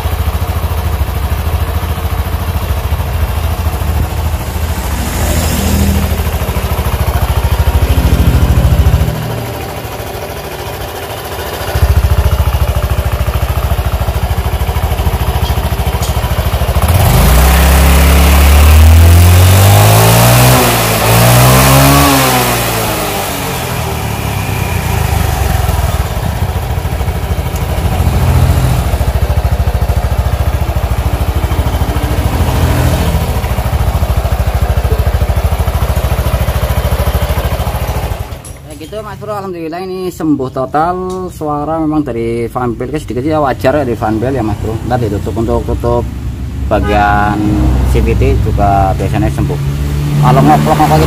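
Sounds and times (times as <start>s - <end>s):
scooter engine idling and revving: 0.0s - 51.0s.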